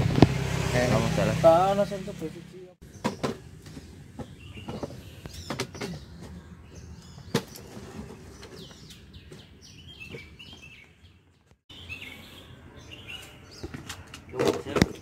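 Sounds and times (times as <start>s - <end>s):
small birds chirping: 2.8s - 15.0s.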